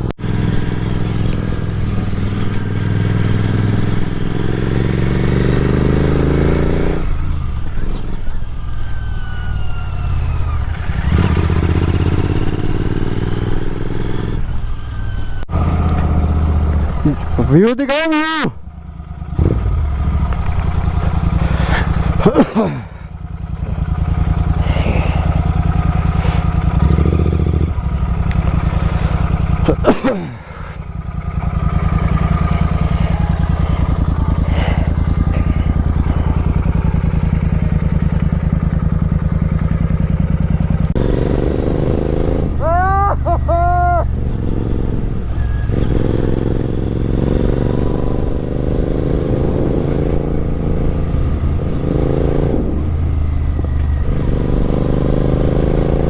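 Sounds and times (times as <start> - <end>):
motorbike engine running: 0.0 - 56.0.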